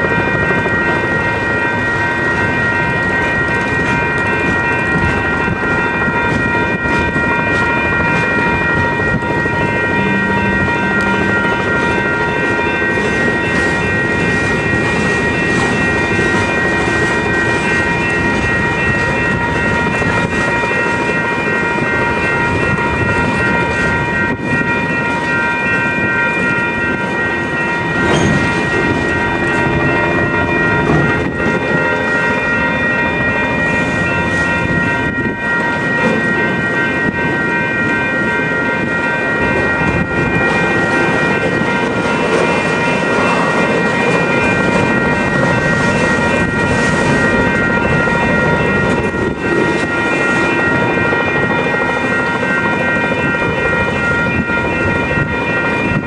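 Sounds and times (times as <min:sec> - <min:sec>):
crossing bells ringing: 0:00.0 - 0:56.0
freight train rumble and clatter: 0:00.0 - 0:56.0.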